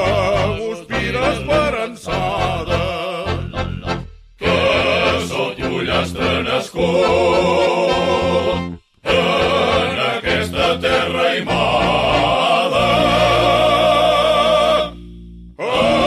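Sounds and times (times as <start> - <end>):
vocal group singing in harmony: 0.0 - 15.0, 15.6 - 16.0.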